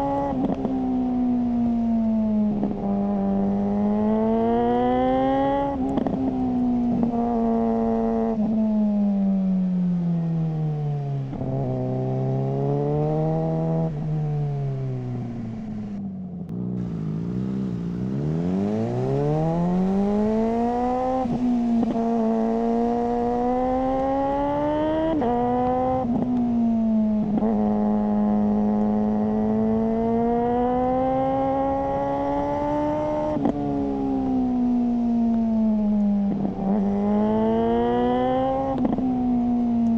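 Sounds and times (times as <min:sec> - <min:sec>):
motorcycle engine revving: 0:00.0 - 0:09.0, 0:10.9 - 0:39.9.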